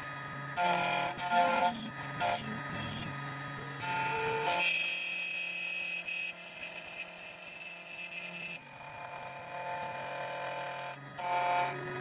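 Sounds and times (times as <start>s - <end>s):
key cutting machine whining: 0.0s - 12.0s.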